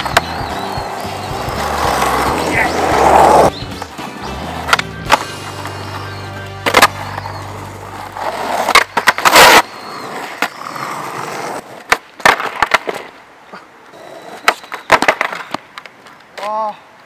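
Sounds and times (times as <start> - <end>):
skateboard clacks and slaps: 0.0 - 6.0, 6.6 - 7.6, 8.2 - 13.1, 14.0 - 16.5
skateboard wheels rolling on asphalt: 0.0 - 17.0.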